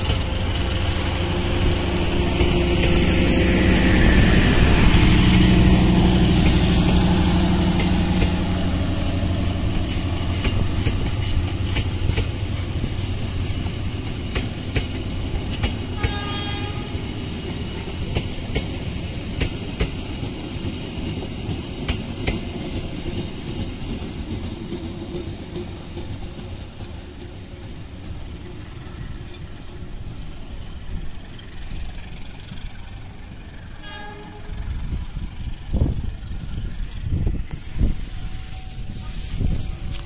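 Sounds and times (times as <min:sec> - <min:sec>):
train wheels clicking over rail joints: 0:00.0 - 0:33.5.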